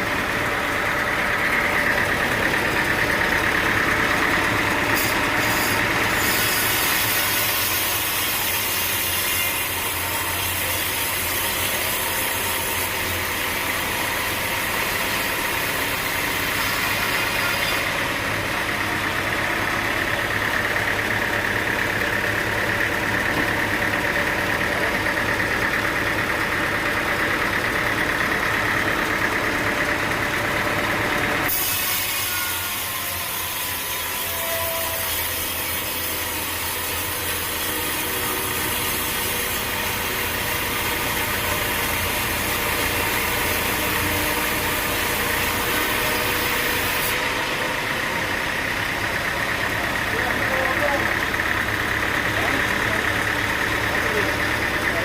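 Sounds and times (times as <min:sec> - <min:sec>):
running machinery: 0:00.0 - 0:55.0
saw cutting through log: 0:00.0 - 0:55.0.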